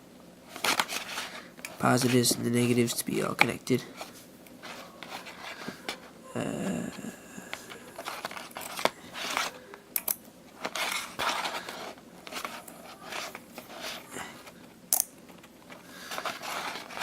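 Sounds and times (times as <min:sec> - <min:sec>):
rustling and scraping of wires: 0:00.4 - 0:09.8, 0:10.5 - 0:17.0.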